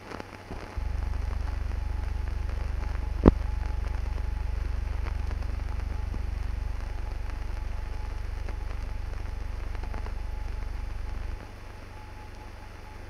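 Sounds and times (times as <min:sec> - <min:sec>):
film hiss and crackle: 0:00.0 - 0:13.0
low electrical hum: 0:00.0 - 0:13.0.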